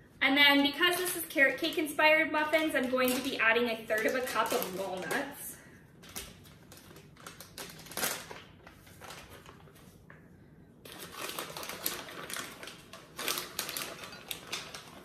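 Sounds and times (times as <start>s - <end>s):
plastic bag crinkling: 0.7s - 10.1s, 10.8s - 15.0s.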